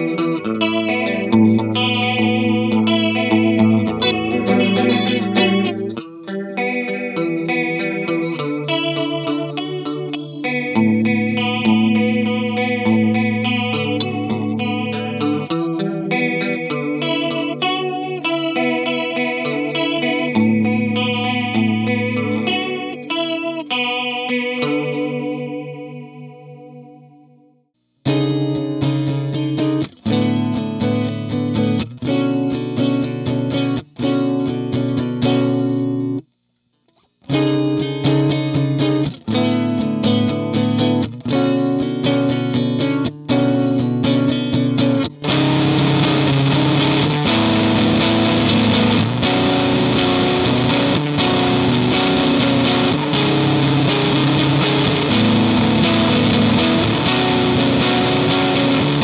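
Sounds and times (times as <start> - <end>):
electric guitar chords with chorus: 0.0 - 36.2, 37.2 - 59.0.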